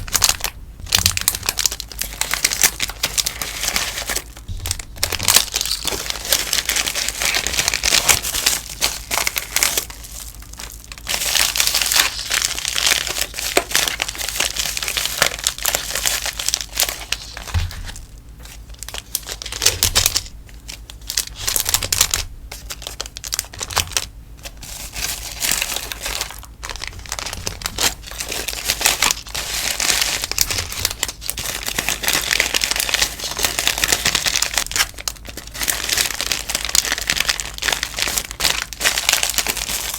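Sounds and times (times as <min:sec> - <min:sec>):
sticker packaging crinkling: 0:00.0 - 0:39.9.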